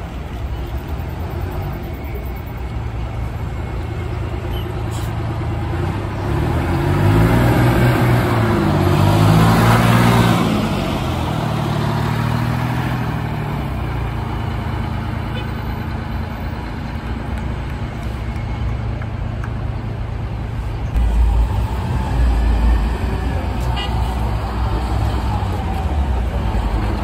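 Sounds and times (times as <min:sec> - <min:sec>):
bus engine accelerating: 0:00.0 - 0:27.0.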